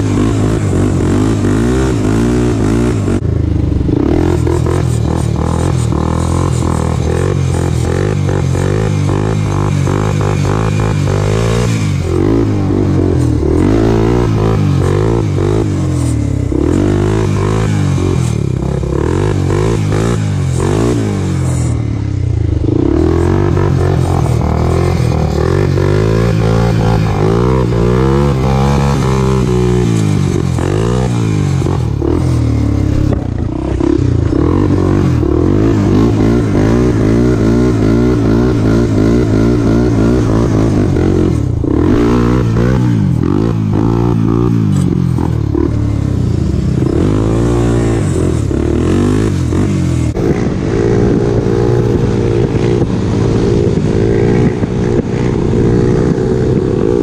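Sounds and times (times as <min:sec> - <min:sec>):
pit bike engine running: 0:00.0 - 0:57.0
quad engine revving: 0:00.0 - 0:57.0.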